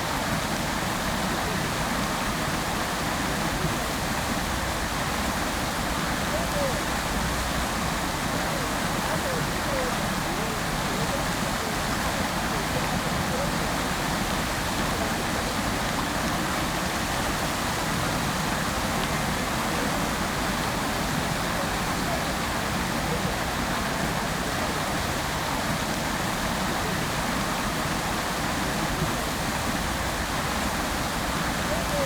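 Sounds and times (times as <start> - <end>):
water fountain splashing: 0.0 - 32.0.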